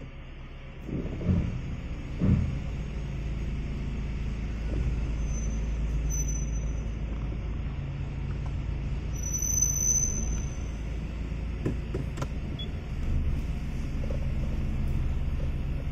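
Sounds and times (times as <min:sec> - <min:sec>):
car engine rumbling: 0:00.0 - 0:15.9.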